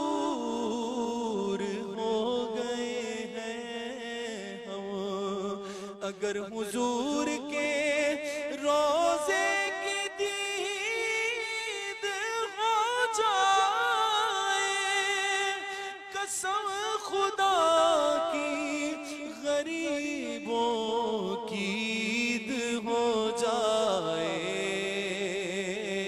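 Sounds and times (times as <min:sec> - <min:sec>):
man singing ornamented melody: 0:00.0 - 0:26.0.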